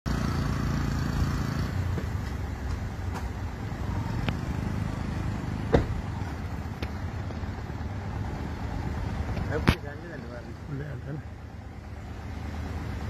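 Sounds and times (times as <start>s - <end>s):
vehicle engine rumbling: 0.1s - 13.0s.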